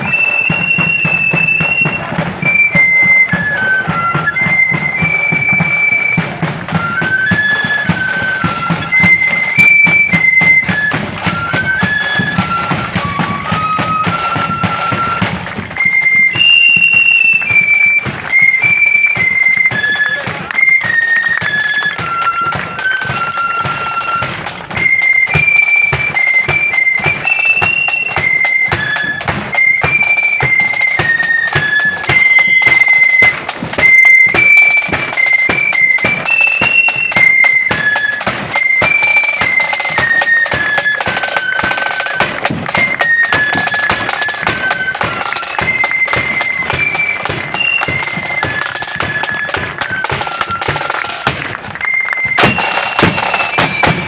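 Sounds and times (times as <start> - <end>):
flutes playing melody: 0.0 - 54.0
marching drumbeats: 0.0 - 54.0.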